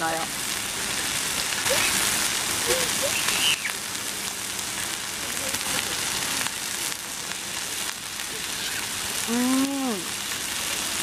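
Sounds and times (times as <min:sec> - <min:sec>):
meat and vegetables sizzling: 0:00.0 - 0:11.0.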